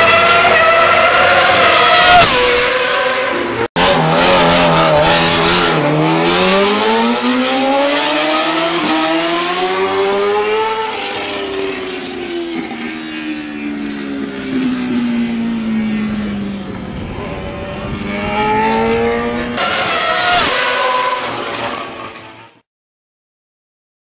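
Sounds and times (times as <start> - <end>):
racing motorcycle engine revving: 0.0 - 20.4.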